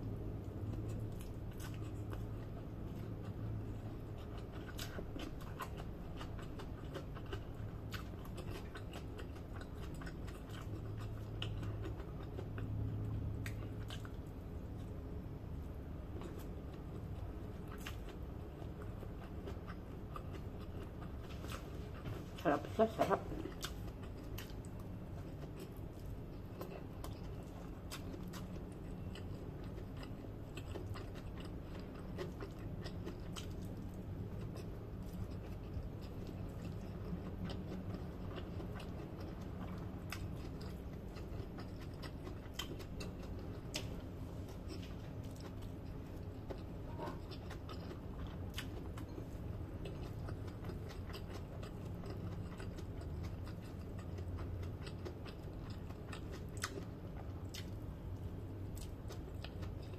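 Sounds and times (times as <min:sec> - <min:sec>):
person chewing food: 0:00.1 - 0:59.9.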